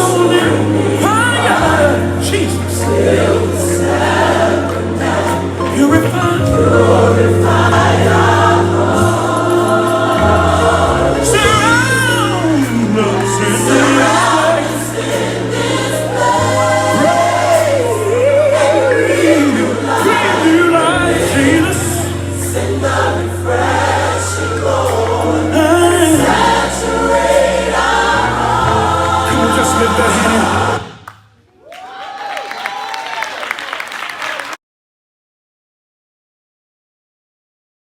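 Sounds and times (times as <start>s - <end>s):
choir singing gospel music: 0.0s - 31.3s.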